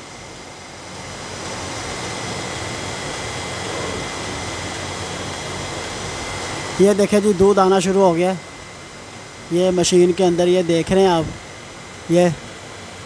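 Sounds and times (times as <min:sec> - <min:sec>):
milking machinery hum and hiss: 0:00.0 - 0:13.0
thin high whine: 0:00.0 - 0:13.0.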